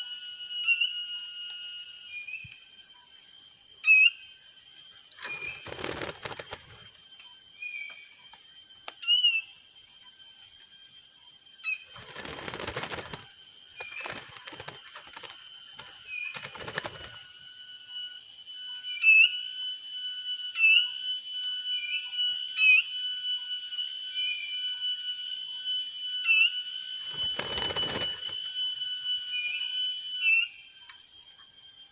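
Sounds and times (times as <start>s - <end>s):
steady high-pitched whine: 0.0s - 31.9s.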